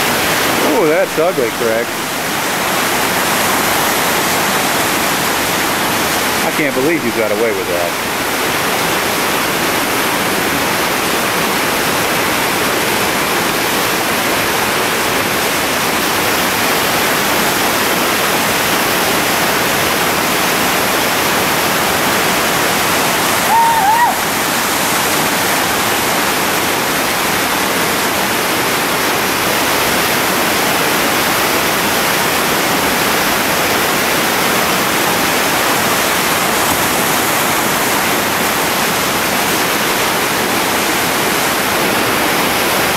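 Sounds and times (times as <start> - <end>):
whitewater rapid rushing over rocks: 0.0 - 42.9.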